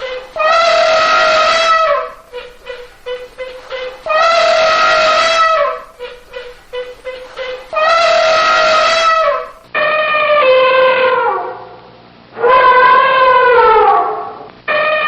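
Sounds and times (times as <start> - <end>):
animal calling: 0.0 - 11.7, 12.4 - 15.0.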